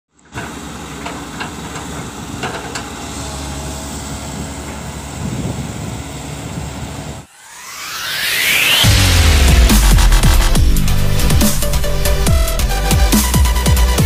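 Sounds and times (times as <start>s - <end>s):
excavator diesel engines running: 0.1s - 7.3s, 8.5s - 14.0s.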